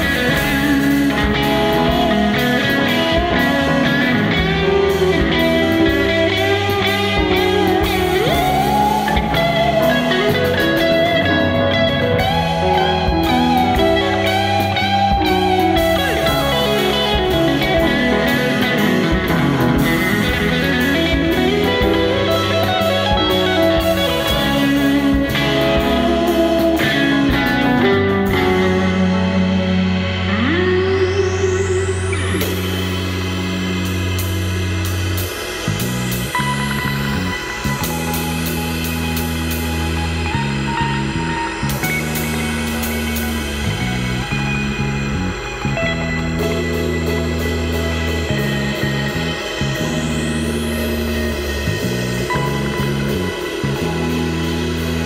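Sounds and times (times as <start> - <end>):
bass guitar: 0.0 - 55.0
electric guitar lead with bends: 0.0 - 55.0
keyboard: 0.0 - 55.0.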